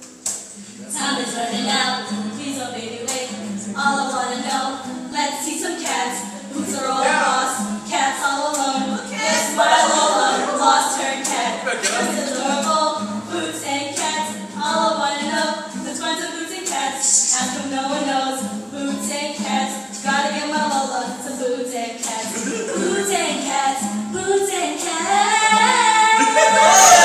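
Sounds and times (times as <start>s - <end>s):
women singing in harmony: 0.9s - 27.0s.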